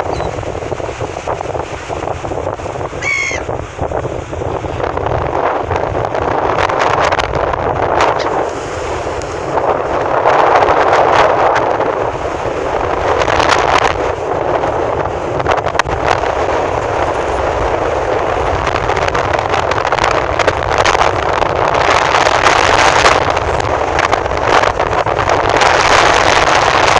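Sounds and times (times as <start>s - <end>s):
sea rushing: 0.0s - 26.9s
wind blowing on microphone: 0.0s - 26.9s.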